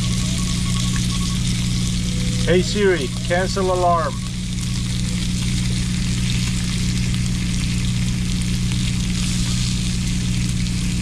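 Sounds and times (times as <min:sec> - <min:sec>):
bacon sizzling in a skillet: 0:00.0 - 0:11.0
low hum: 0:00.0 - 0:11.0.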